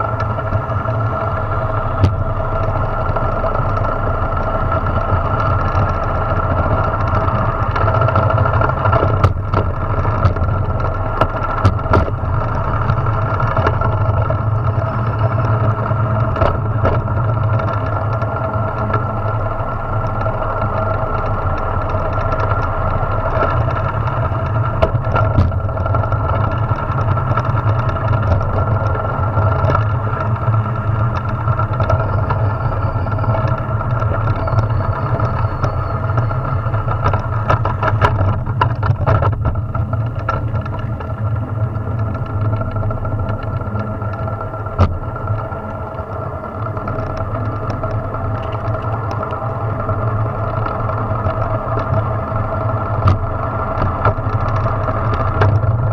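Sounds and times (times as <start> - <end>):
wheels rumbling on asphalt: 0.0 - 55.9.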